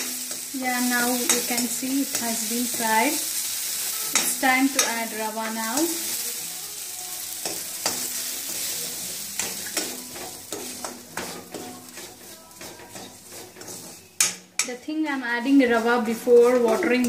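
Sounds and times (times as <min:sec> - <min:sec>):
metal spatula scraping a pan: 0:00.0 - 0:06.4, 0:07.3 - 0:17.0
vegetables sizzling in hot oil: 0:00.0 - 0:17.0.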